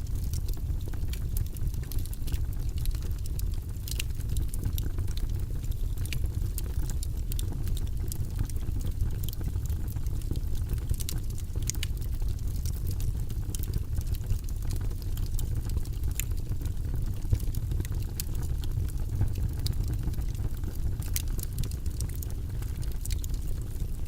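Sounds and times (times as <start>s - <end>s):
fire rumbling: 0.0s - 24.0s
wood crackling and popping: 0.0s - 24.0s.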